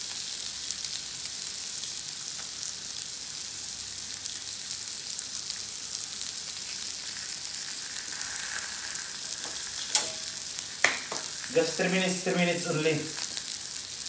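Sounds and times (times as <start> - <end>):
fish sizzling on a grill pan: 0.0 - 14.0.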